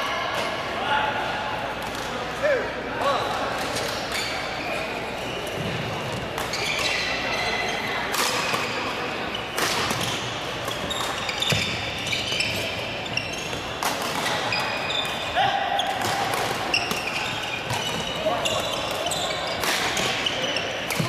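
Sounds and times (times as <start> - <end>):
sneakers squeaking on court floor: 3.7 - 21.0.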